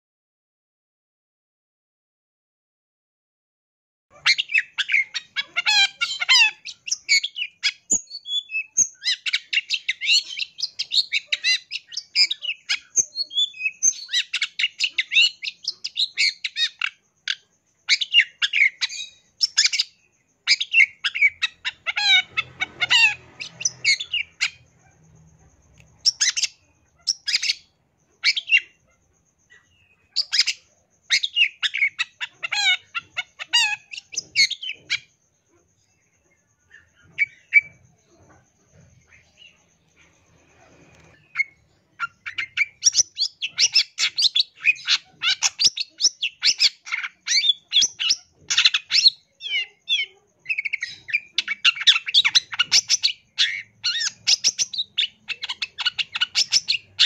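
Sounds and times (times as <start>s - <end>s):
bird singing rapid chirps and trills: 4.1s - 57.0s.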